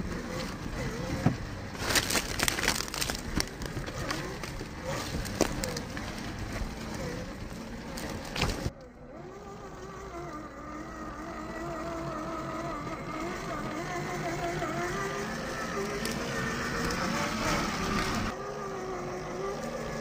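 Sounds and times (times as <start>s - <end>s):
rc car motor whine: 0.0s - 20.0s.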